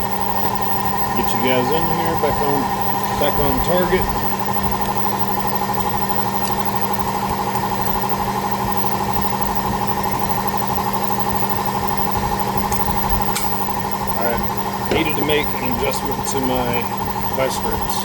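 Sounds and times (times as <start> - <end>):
machine hum with flutter: 0.0 - 18.0.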